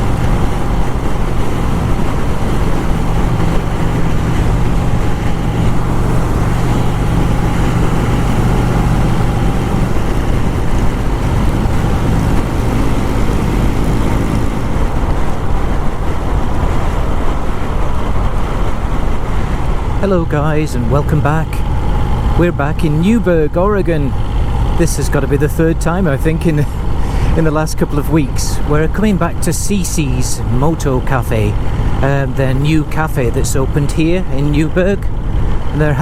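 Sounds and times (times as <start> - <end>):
low wind: 0.0 - 36.0
motorcycle engine running: 0.0 - 36.0
road rumble: 0.0 - 36.0.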